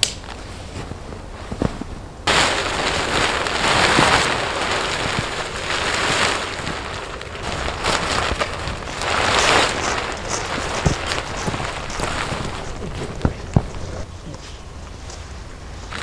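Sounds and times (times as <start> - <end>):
tent fabric rustling: 0.0 - 16.0.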